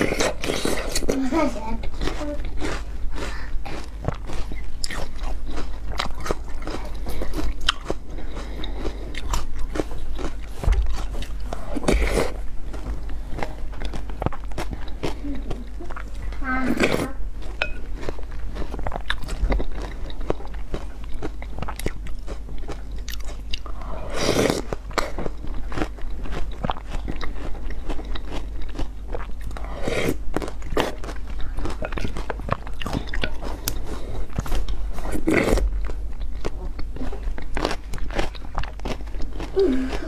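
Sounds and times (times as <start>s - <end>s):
chewing and crunching: 0.0s - 40.0s.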